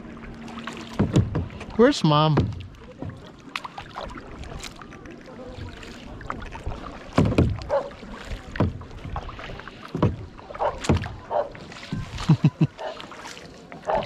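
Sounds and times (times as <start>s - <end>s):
kayak paddle dipping into water: 0.0s - 14.0s
water splashes and drips: 0.0s - 14.0s.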